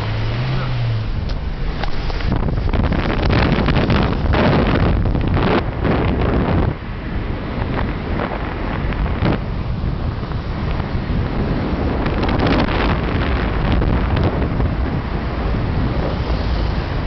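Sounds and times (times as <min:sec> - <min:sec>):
car road rumble: 0:00.0 - 0:17.0
wind buffeting microphone: 0:00.0 - 0:17.0.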